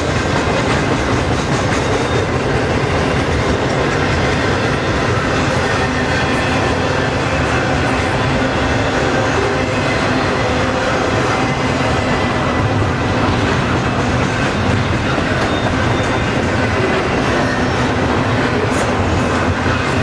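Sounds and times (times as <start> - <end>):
freight cars rumbling on track: 0.0 - 20.0.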